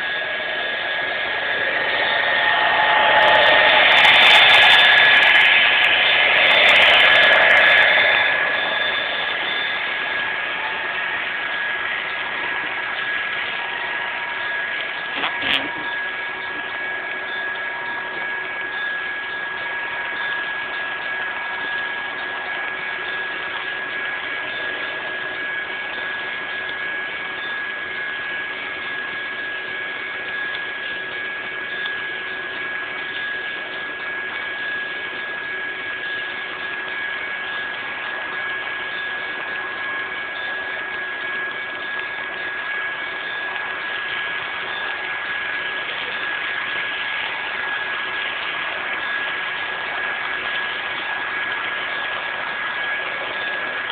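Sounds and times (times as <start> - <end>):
high-pitched whine: 0.0 - 53.9
model train running: 0.0 - 53.9.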